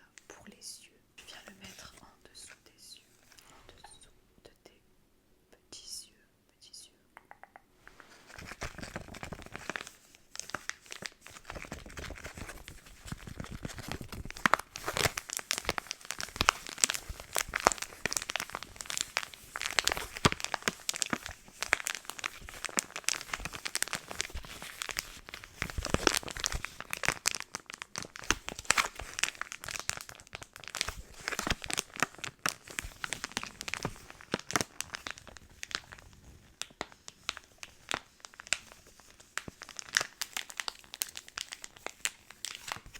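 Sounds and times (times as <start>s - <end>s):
packaging crinkling: 8.0s - 42.9s
wrapping tearing: 8.2s - 42.9s.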